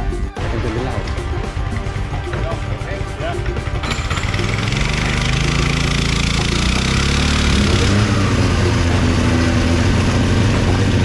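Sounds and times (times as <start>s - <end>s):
motorcycle engine idling: 1.5s - 11.0s.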